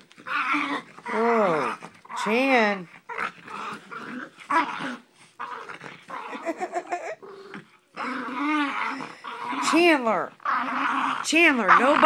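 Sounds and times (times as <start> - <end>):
dogs growling: 0.1 - 12.0.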